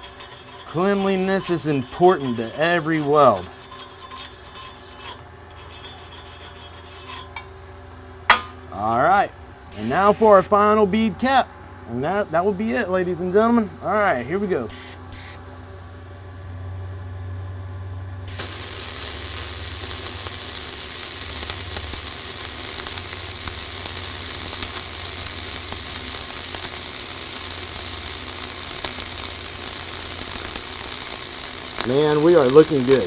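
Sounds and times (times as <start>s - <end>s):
welding arc crackling and sizzling: 0.0s - 7.4s, 9.7s - 15.5s, 18.3s - 33.0s
low steady hum: 0.0s - 33.0s.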